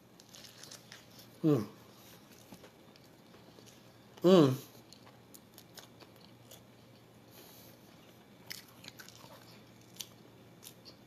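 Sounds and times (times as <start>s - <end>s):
faint chewing with crunches: 0.0s - 11.0s.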